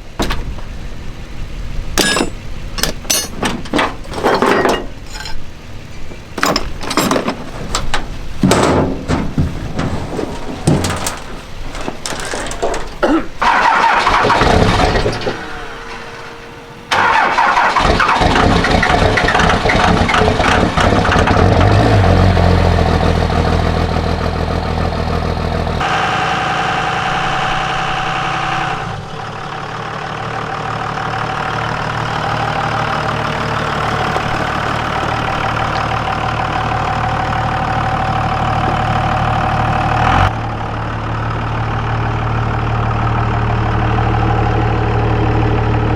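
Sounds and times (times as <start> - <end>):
truck engine cranking and idling: 0.0 - 45.9.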